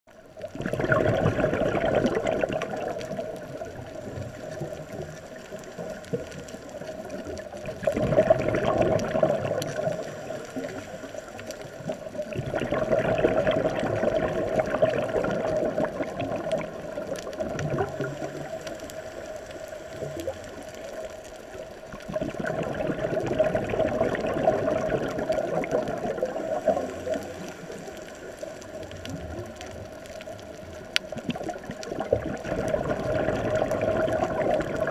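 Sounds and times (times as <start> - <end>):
steady underwater noise: 0.1 - 34.9
regulator exhaust bubbles gurgling: 0.2 - 18.8, 21.9 - 27.4, 30.6 - 34.9.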